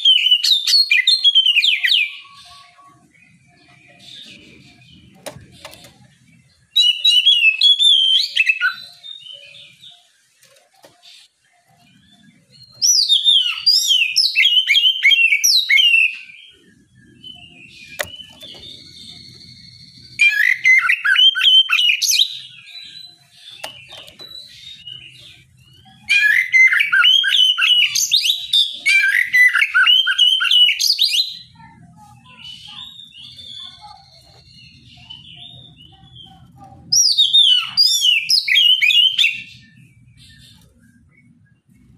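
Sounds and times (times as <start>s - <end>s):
magpie-robin singing whistled phrases: 0.0s - 5.2s, 5.8s - 10.3s, 11.0s - 41.7s.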